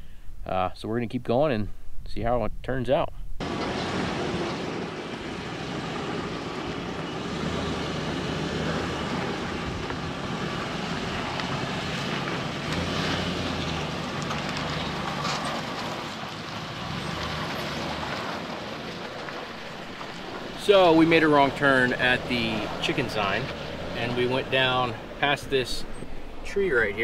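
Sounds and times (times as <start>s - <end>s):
car engine at low revs: 3.4s - 27.0s.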